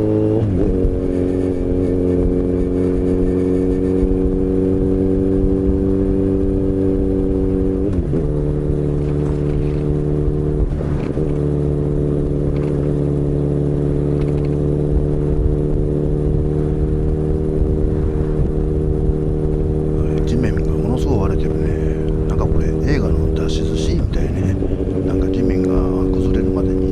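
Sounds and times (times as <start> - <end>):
motorcycle engine riding steadily: 0.0 - 26.9.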